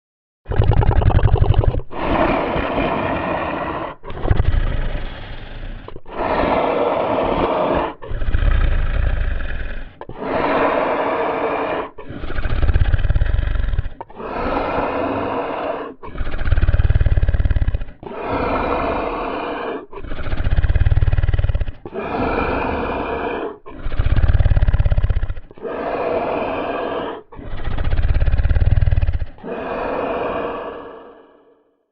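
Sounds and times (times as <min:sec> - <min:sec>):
deep slow snoring breaths: 0:00.5 - 0:31.9.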